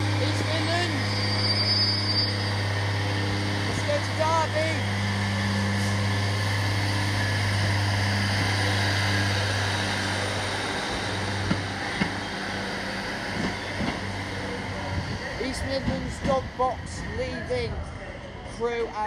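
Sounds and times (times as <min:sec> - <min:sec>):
diesel railcar engine droning: 0:00.0 - 0:19.0.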